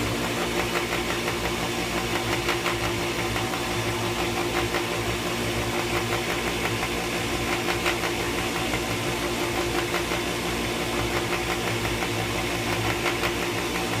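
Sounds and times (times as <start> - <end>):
pool pump humming: 0.0 - 14.0.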